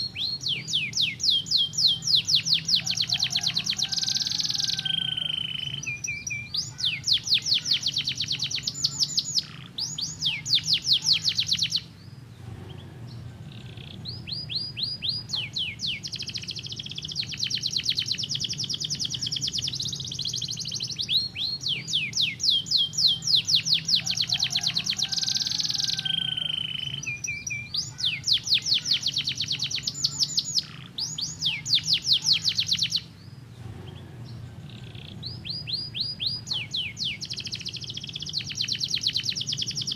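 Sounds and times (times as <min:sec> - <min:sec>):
steady low hum: 0:00.0 - 0:25.0, 0:27.1 - 0:39.9
canary singing trills: 0:00.0 - 0:39.9.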